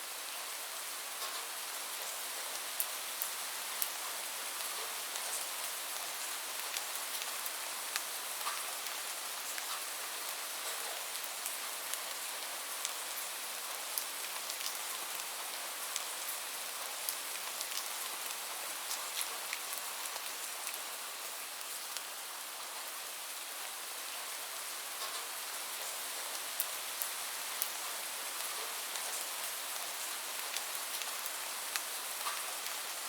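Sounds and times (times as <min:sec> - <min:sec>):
raindrops ticking on a surface: 0:01.1 - 0:22.9, 0:24.9 - 0:33.0.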